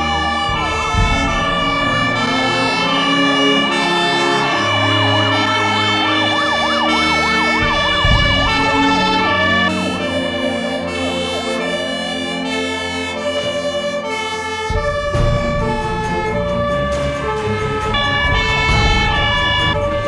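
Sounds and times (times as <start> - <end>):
background music: 0.0 - 20.0
fire engine siren wailing: 0.0 - 20.0.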